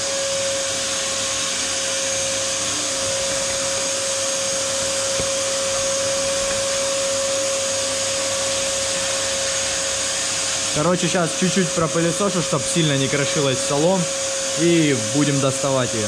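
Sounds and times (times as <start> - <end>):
vacuum cleaner whining: 0.0 - 16.0.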